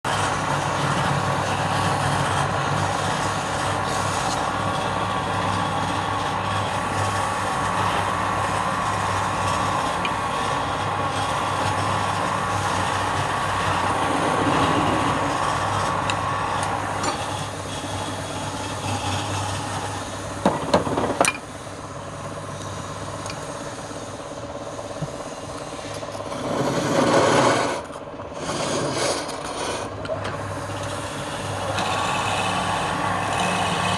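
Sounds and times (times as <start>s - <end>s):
motor hum: 0.0s - 33.9s
lathe tool scraping wood: 0.1s - 22.2s, 22.8s - 33.9s.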